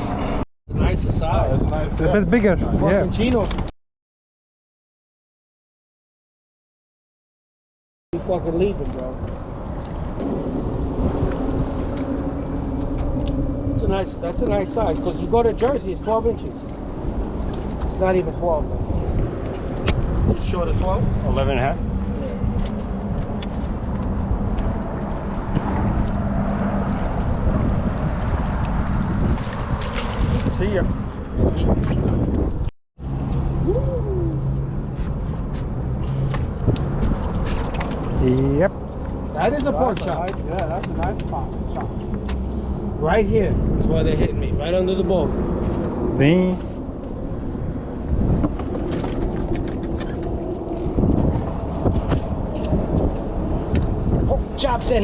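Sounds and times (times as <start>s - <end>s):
wind buffeting microphone: 0.0s - 3.7s, 8.2s - 55.0s
low motor hum: 9.2s - 54.5s.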